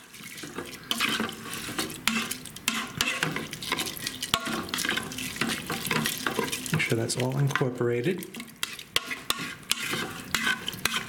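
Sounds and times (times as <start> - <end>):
plastic spoon scraping a pot: 0.0 - 7.8, 8.4 - 11.0
low sizzle: 0.0 - 11.0.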